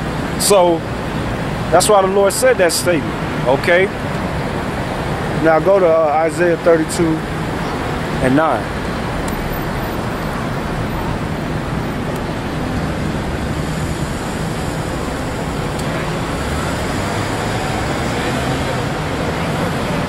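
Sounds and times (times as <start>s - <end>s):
passing cars: 0.0s - 20.0s.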